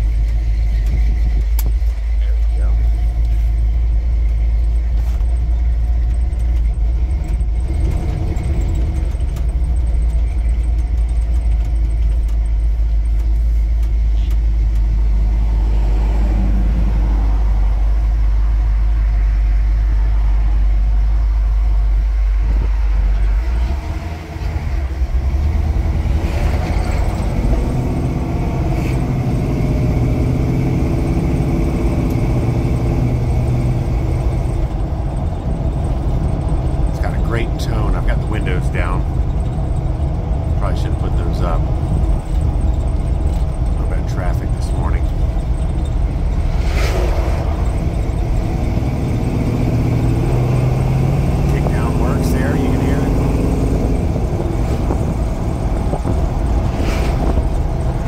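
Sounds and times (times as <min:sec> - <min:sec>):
engine droning inside vehicle cab: 0:00.0 - 0:58.0.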